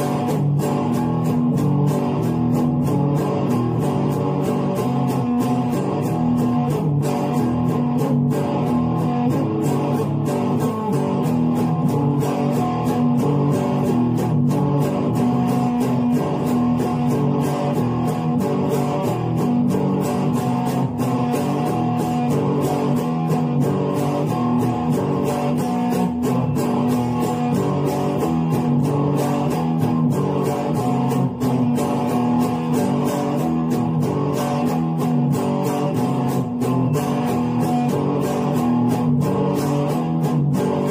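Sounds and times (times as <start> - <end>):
electric guitar playing: 0.0 - 40.9
steady beat: 0.0 - 40.9.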